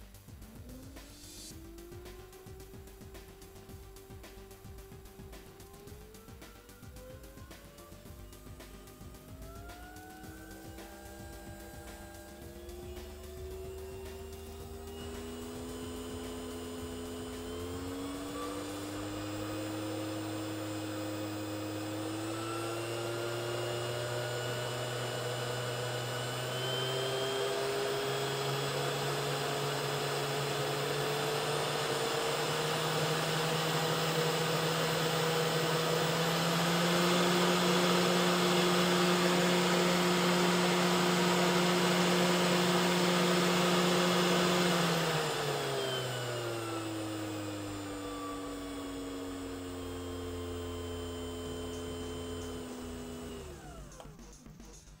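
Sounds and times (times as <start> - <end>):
spindle motor whine: 4.8 - 54.5.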